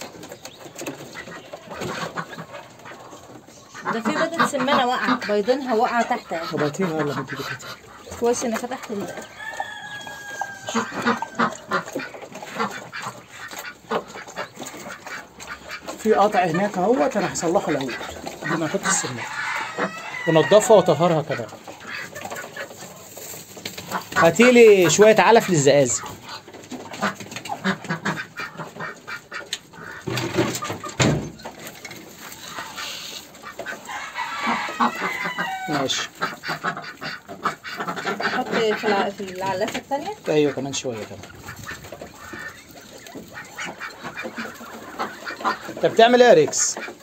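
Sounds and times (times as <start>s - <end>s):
ducks quacking: 0.0s - 47.0s
farmyard bird calls: 0.0s - 47.0s.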